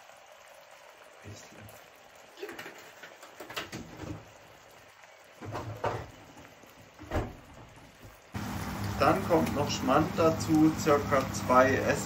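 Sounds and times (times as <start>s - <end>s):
sauce simmering: 0.0s - 12.0s.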